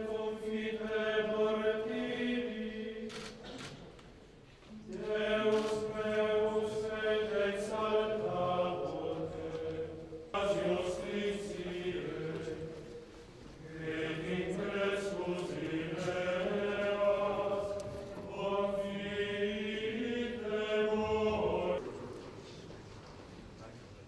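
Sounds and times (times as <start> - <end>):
voices chanting slow melody: 0.0 - 3.6, 4.8 - 22.2.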